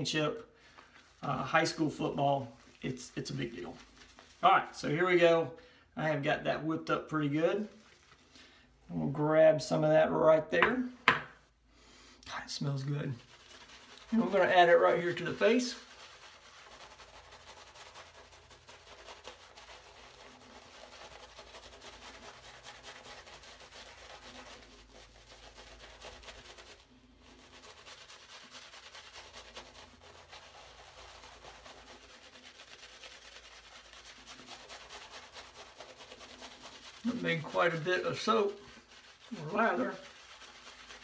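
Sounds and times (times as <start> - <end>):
shaving brush scrubbing lather: 0.0 - 8.4, 12.3 - 41.0.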